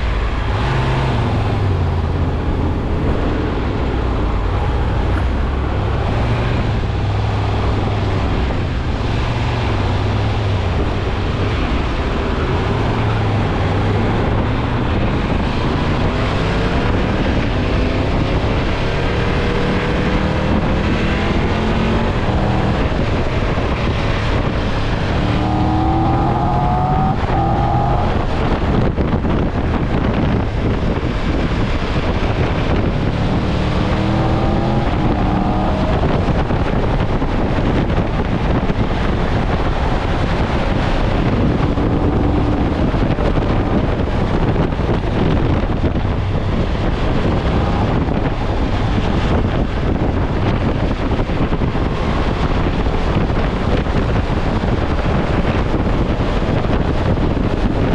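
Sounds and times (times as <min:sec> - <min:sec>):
car engine accelerating: 0:00.0 - 0:57.9
road noise: 0:00.0 - 0:57.9.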